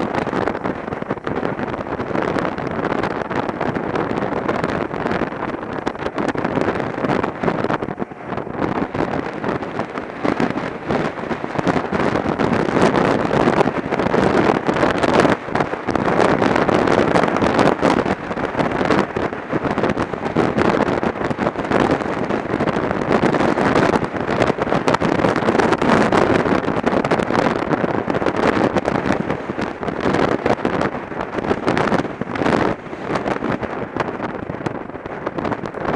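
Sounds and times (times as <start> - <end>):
motorcycle running: 0.0 - 35.9
wind buffeting microphone: 0.0 - 35.9.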